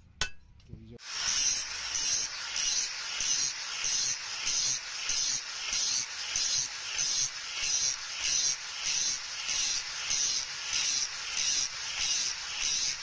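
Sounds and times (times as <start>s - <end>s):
wire wheel grinder rasping: 1.0s - 13.0s.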